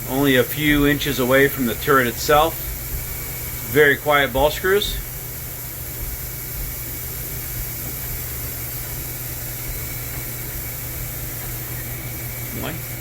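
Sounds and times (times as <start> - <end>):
machine tool humming and hissing: 0.0 - 13.0.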